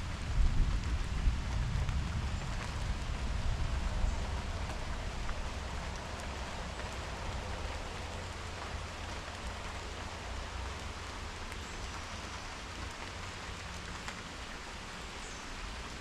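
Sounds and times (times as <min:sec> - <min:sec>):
constant low rumble: 0:00.0 - 0:16.0
steady rain falling: 0:00.0 - 0:16.0.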